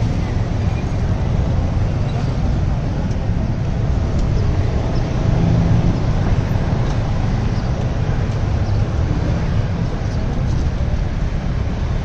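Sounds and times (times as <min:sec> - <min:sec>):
motorbikes and cars rumbling: 0:00.0 - 0:12.0
street traffic: 0:00.0 - 0:12.0.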